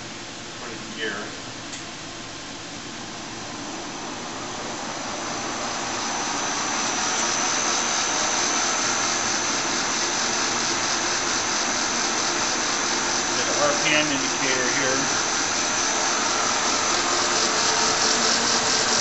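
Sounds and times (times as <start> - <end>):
lathe spindle whine: 3.0 - 19.0.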